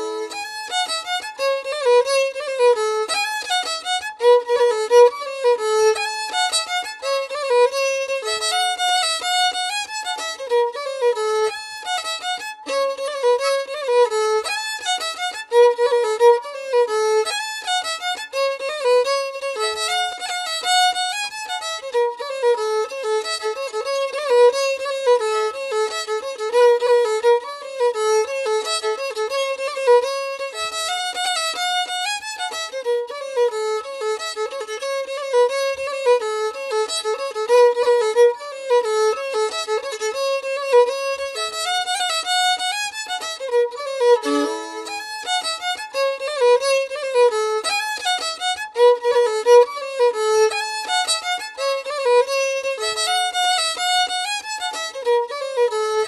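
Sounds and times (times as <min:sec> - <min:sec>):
fiddle playing fast tune: 0:00.0 - 0:56.0.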